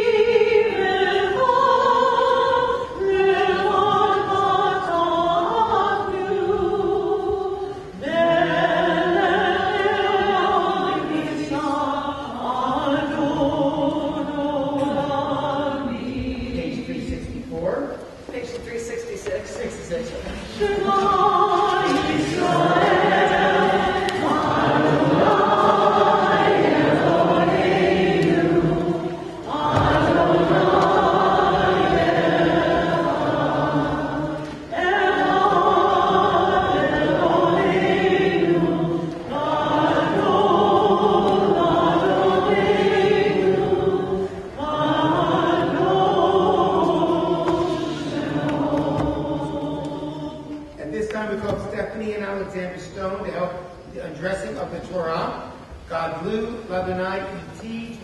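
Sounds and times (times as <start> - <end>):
congregation singing a prayer: 0.0 - 58.0.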